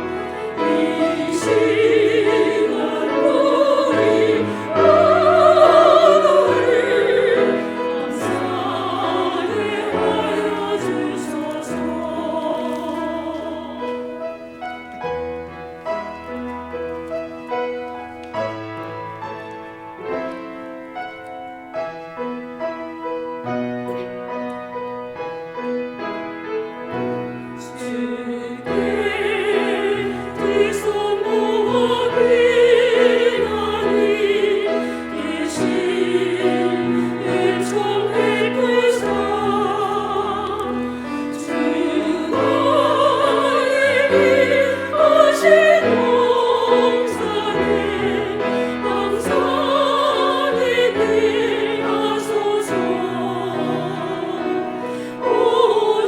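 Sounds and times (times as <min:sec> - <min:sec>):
women's choir singing a hymn: 0:00.0 - 0:21.4, 0:22.1 - 0:56.0
piano accompaniment: 0:00.0 - 0:56.0.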